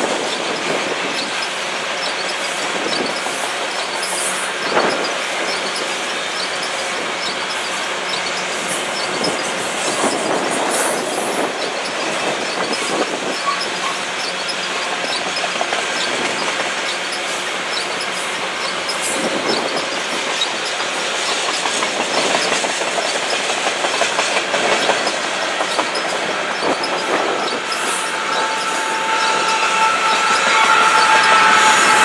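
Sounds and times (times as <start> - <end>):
train wheels clattering over rail joints: 0.0 - 32.0.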